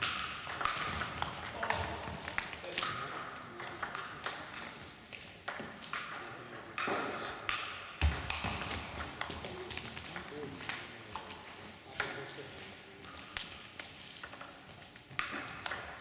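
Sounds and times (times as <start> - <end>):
table tennis ball hitting bats and table: 0.0 - 12.4, 13.0 - 16.0.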